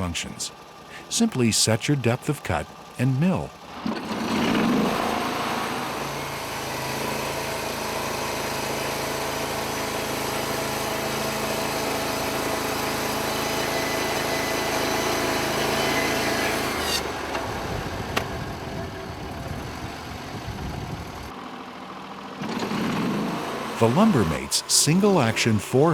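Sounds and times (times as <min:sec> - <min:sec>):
band sawmill cutting: 0:00.0 - 0:19.2, 0:22.4 - 0:25.9.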